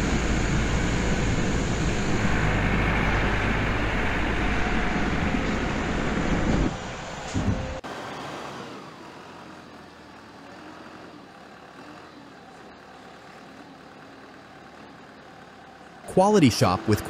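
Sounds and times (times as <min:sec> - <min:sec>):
quiet steady engine hum: 0:00.0 - 0:07.8, 0:09.0 - 0:17.0
tractor diesel engine running: 0:00.0 - 0:17.0.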